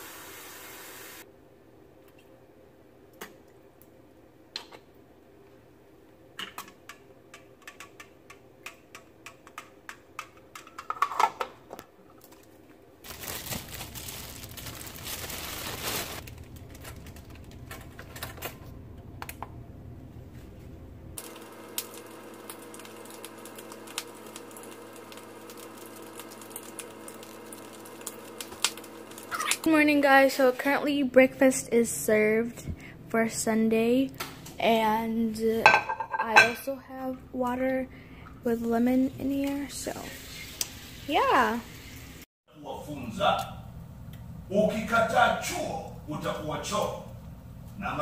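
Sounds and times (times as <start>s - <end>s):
background hum: 1.3s - 48.0s.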